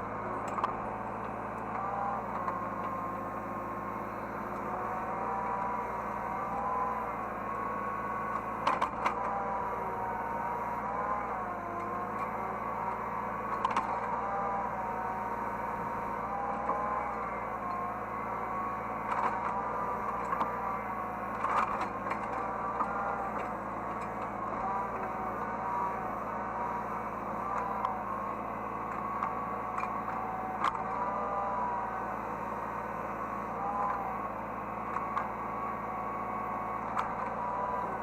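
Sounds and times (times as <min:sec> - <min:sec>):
excavator engine hum: 0:00.0 - 0:38.0.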